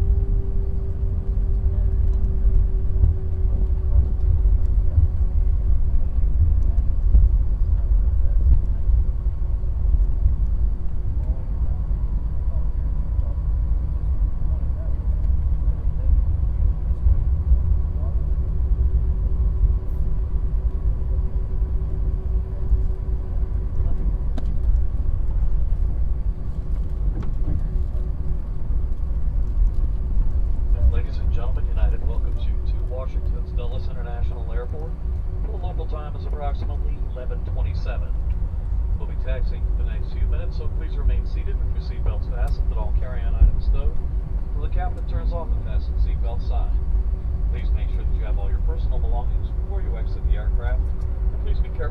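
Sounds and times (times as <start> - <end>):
airliner cabin rumble: 0.0 - 51.9
faint steady hum: 0.0 - 51.9.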